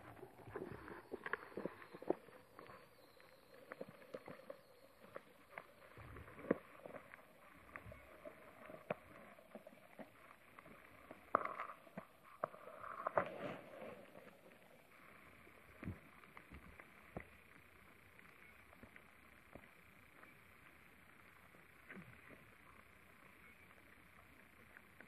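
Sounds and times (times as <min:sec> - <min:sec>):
muffled underwater ambience: 0:00.0 - 0:25.0.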